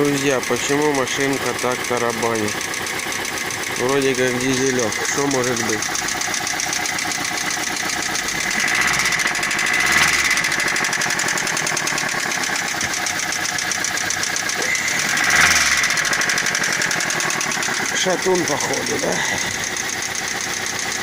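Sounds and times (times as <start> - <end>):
car engine knocking rattle: 0.0 - 21.0.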